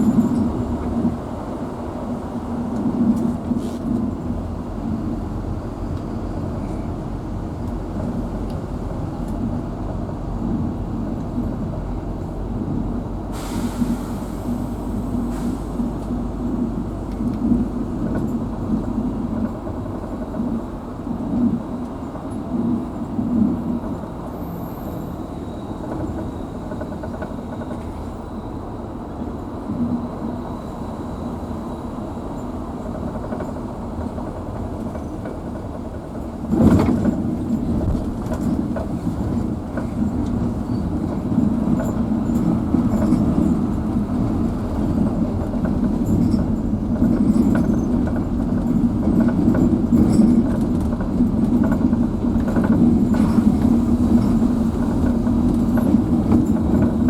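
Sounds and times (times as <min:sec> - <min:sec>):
bus engine rumble: 0:00.0 - 0:57.0.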